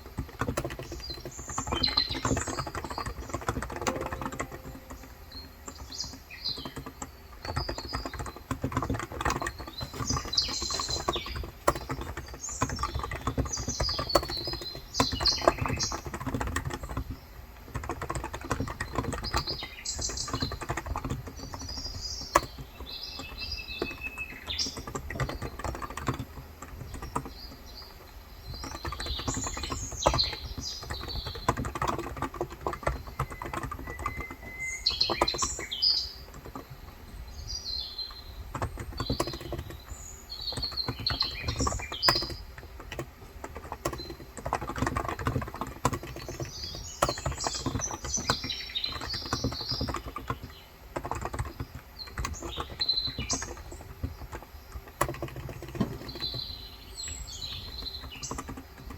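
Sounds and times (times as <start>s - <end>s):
birds chirping: 0.0s - 58.9s
keyboard typing: 0.0s - 58.9s.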